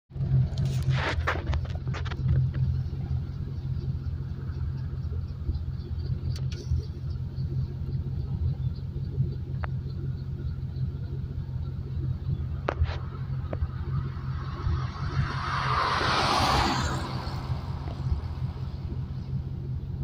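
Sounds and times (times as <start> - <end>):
helicopter rotors droning: 2.1 - 20.0.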